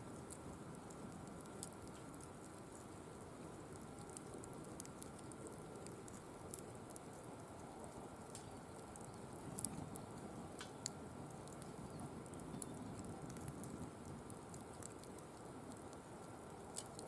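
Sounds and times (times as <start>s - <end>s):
fire burning: 0.0s - 17.0s
wood crackling and popping: 0.0s - 17.0s.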